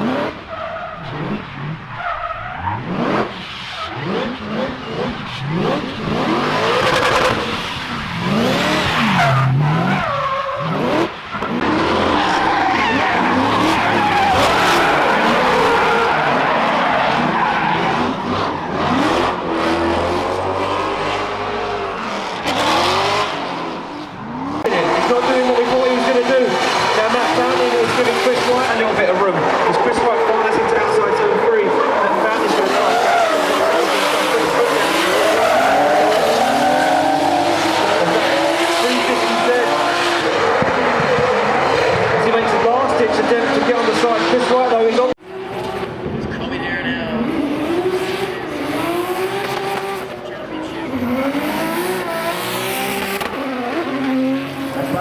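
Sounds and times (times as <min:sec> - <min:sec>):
tyres squealing and skidding: 0:00.0 - 0:45.9, 0:46.6 - 0:55.0
car engine revving: 0:00.0 - 0:55.0.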